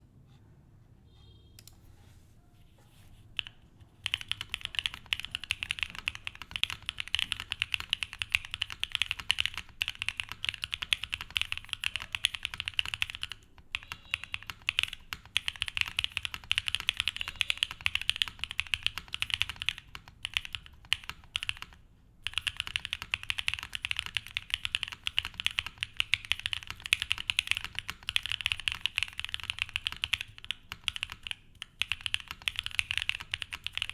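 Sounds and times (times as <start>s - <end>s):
fast typing on mechanical keyboard: 3.4s - 33.9s.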